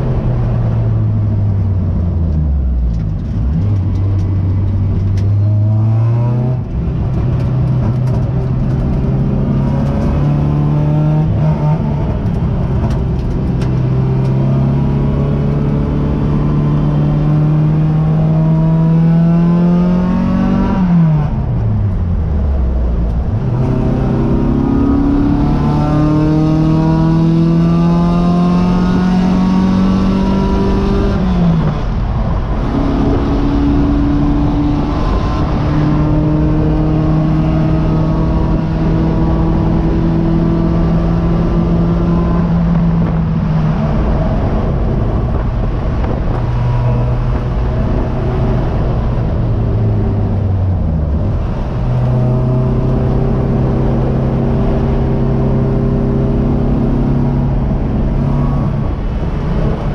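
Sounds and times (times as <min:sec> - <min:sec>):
race car engine accelerating: 0:02.1 - 0:59.9.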